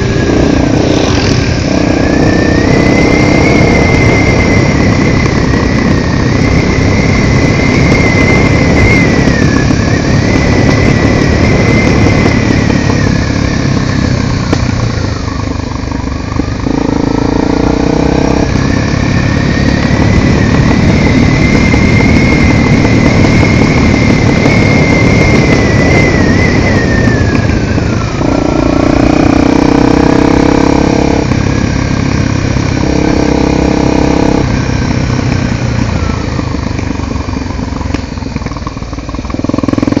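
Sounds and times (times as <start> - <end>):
motorcycle engine running: 0.0 - 40.0
rushing wind noise: 0.0 - 40.0.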